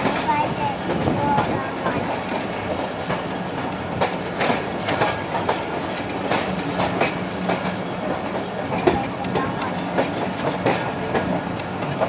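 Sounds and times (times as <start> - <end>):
train running rumble: 0.0 - 12.0
train wheels clacking: 0.0 - 12.0.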